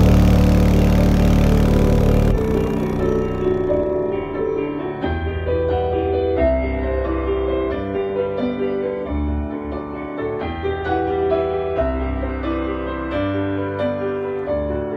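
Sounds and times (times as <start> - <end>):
piano music with heavy bass: 0.0 - 14.9.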